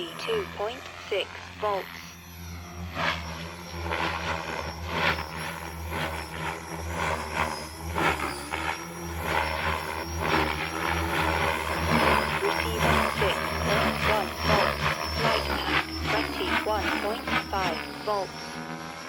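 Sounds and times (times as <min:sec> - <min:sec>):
rc helicopter rotor hum: 0:00.0 - 0:19.0.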